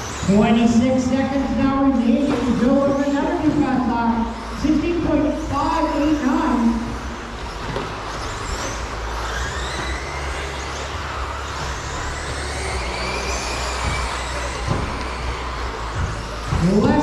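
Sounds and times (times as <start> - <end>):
rc truck motors whining: 0.0 - 17.0
steady low hum: 0.0 - 17.0.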